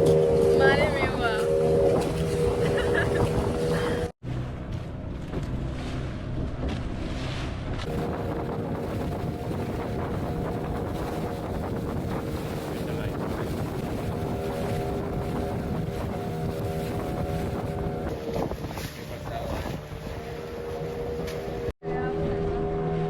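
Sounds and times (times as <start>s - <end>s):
wind buffeting microphone: 0.0s - 22.9s
boat motor running: 0.0s - 23.0s.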